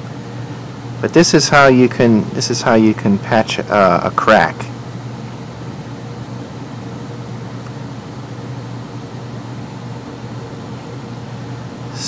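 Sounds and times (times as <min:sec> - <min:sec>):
air conditioner hum and whoosh: 0:00.0 - 0:12.0.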